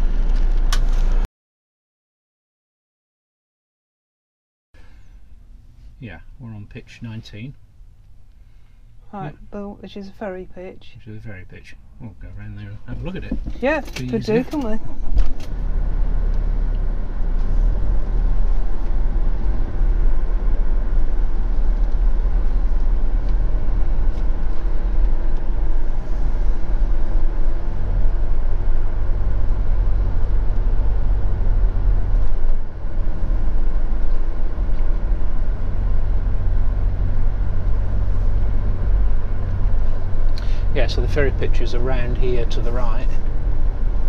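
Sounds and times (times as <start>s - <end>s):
engine low rumble: 0.0s - 1.3s, 4.8s - 44.0s.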